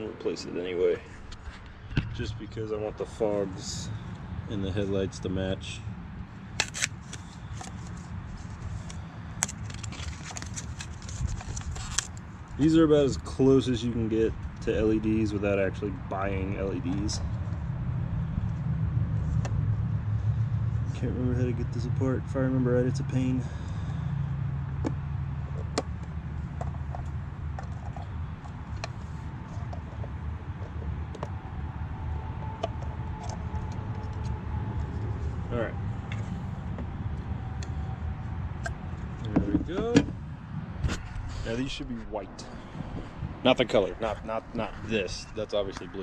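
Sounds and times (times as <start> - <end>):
low steady rumble: 0.0 - 6.6, 7.2 - 46.0
steady low hum: 0.0 - 46.0.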